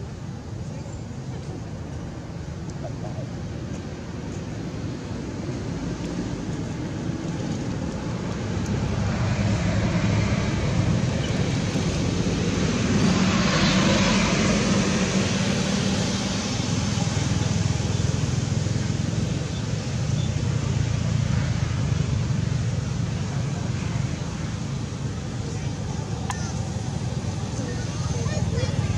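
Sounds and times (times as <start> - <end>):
outdoor rumble and hiss: 0.0 - 28.9.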